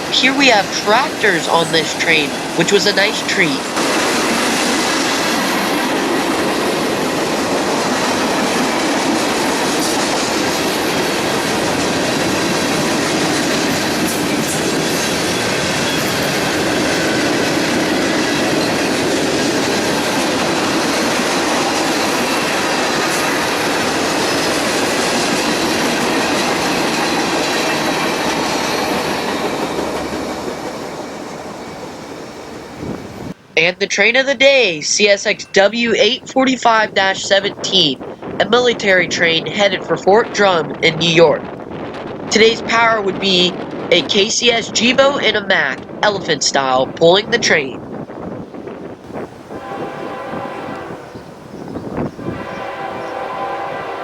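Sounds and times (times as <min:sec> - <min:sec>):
freight train rumbling by: 0:00.0 - 0:33.6, 0:35.0 - 0:54.0.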